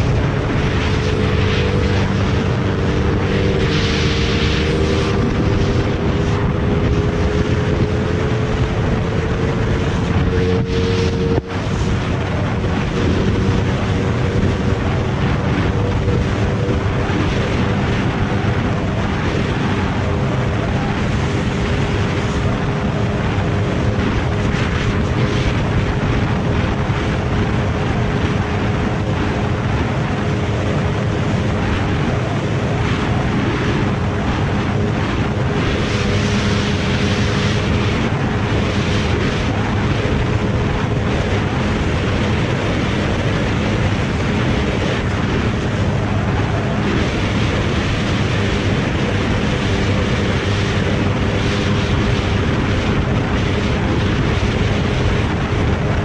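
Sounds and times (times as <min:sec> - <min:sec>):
motorcycle engine at high revs: 0:00.0 - 0:56.0
wind noise on microphone: 0:00.0 - 0:56.0.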